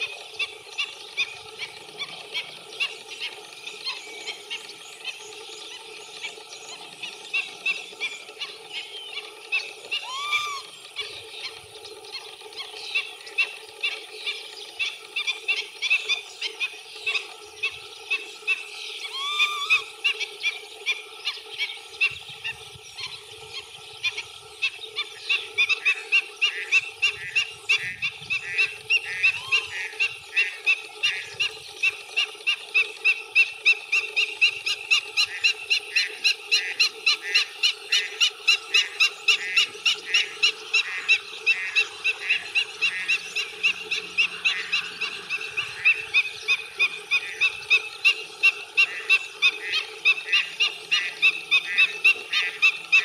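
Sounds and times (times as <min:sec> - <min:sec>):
low-pitched animal chorus: 0:00.0 - 0:53.0.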